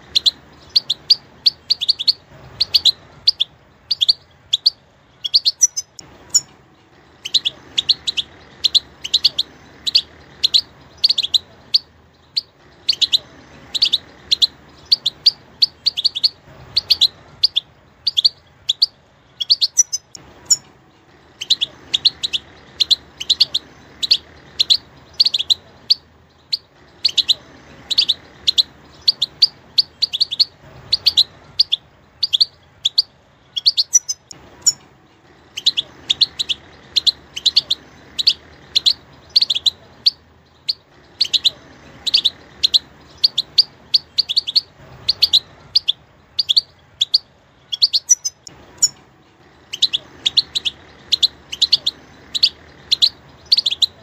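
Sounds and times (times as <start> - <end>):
bird chirping high notes: 0.0 - 54.0.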